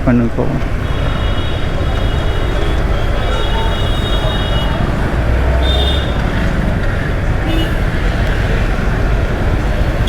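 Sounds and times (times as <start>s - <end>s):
traffic engine rumble: 0.0s - 10.0s.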